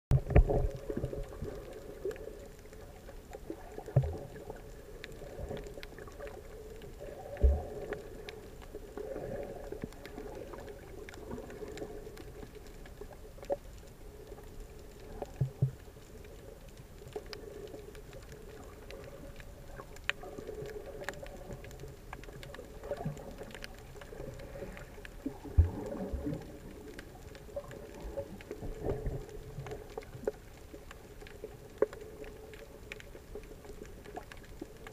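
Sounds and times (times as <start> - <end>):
faint clicks: 0.1 - 34.9
water swishing and gurgling: 0.1 - 34.9.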